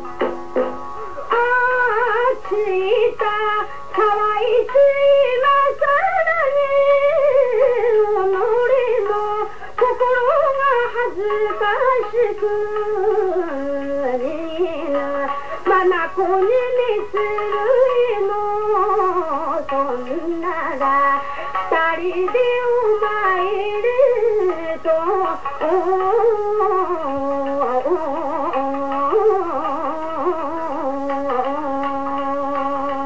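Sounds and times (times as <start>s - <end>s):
woman singing folk song: 1.2s - 33.0s.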